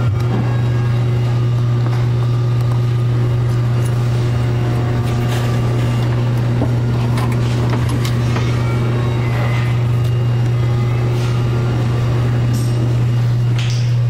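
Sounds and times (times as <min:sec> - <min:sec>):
loud low hum: 0:00.0 - 0:14.0.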